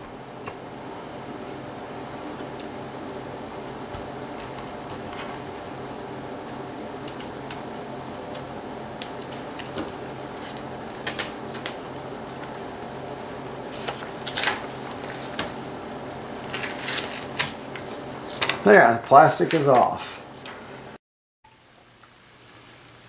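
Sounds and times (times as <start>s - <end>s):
low hum: 0.0s - 18.6s
crackling: 0.0s - 18.8s.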